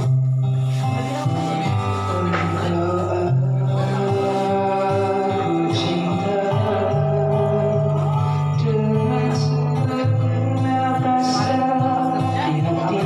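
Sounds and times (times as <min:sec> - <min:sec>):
musical accompaniment: 0:00.0 - 0:13.0
person singing: 0:00.0 - 0:13.0.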